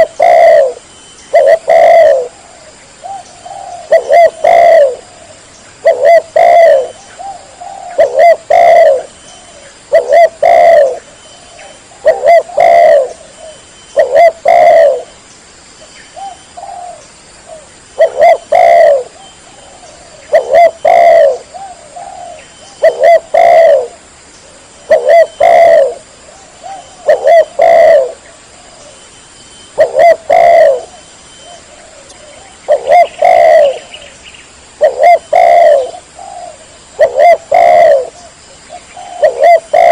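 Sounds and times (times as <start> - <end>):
dove cooing: 0.0 - 15.2, 16.2 - 29.0, 29.7 - 34.2, 34.8 - 39.9.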